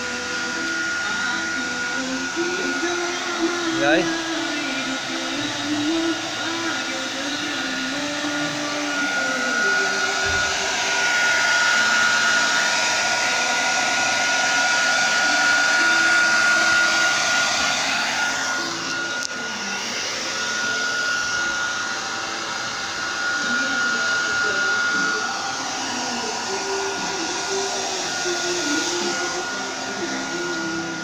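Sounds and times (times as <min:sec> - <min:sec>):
heat gun blowing air: 0:00.0 - 0:31.0.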